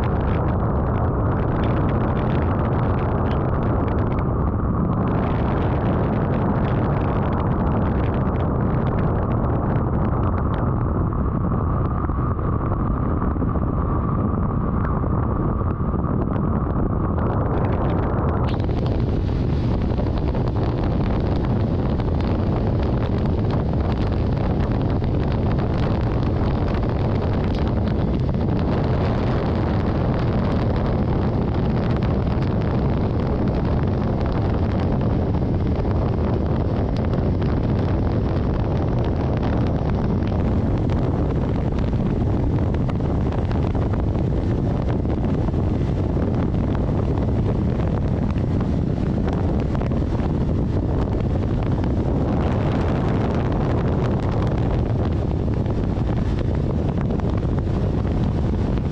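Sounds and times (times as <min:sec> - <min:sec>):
vehicle rumble and wind noise: 0:00.0 - 0:58.9.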